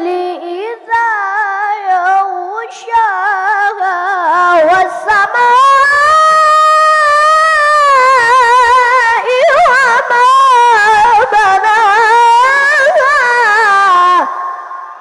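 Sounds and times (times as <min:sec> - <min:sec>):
boy chanting through a microphone: 0:00.0 - 0:15.0.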